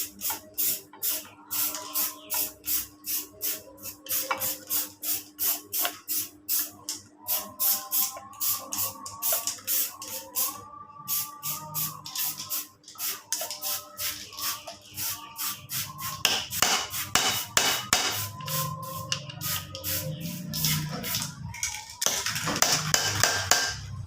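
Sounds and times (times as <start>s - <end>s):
background music with shaker beat: 0.0s - 24.0s.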